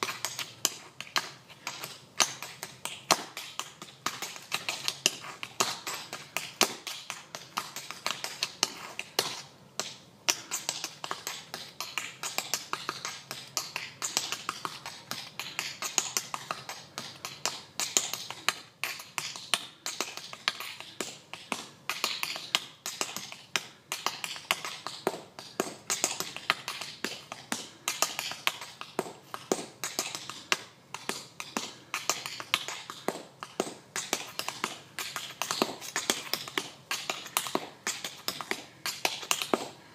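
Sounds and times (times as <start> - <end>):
tap shoes on pavement: 0.0 - 39.8.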